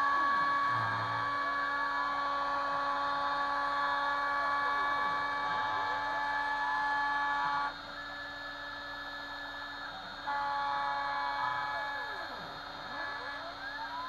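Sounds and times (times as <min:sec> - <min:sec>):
axis motors sweeping tones: 0:00.0 - 0:14.0
cnc router milling whine: 0:00.0 - 0:14.0.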